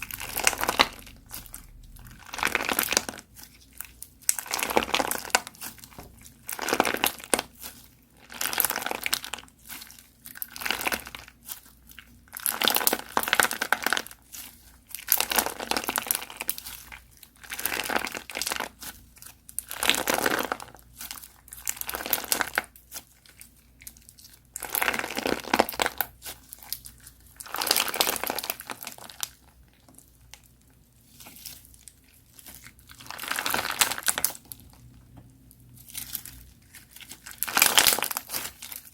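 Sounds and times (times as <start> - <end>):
crunchy slime being squeezed: 0.0 - 29.5, 31.0 - 34.9, 35.7 - 38.9.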